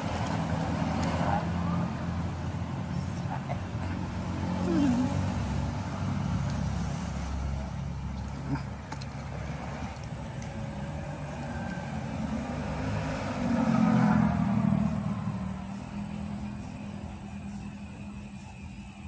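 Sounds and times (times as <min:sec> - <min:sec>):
vehicle passing close by: 0:00.0 - 0:18.2
background traffic rumble: 0:00.0 - 0:19.0.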